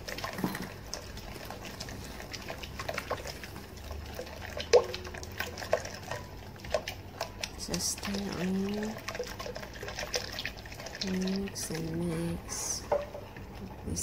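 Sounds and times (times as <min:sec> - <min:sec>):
milk pouring and sloshing: 0:00.0 - 0:14.0.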